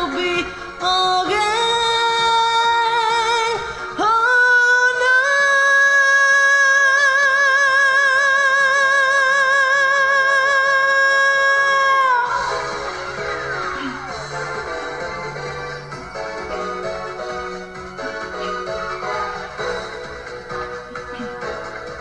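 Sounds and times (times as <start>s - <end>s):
backing music: 0.0s - 22.0s.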